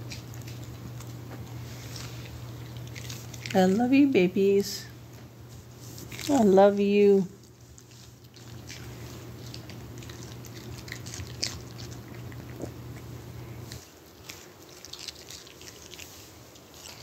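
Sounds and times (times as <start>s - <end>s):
small dog chewing treat: 0.0s - 4.1s, 6.0s - 17.0s
low steady hum: 0.0s - 17.0s.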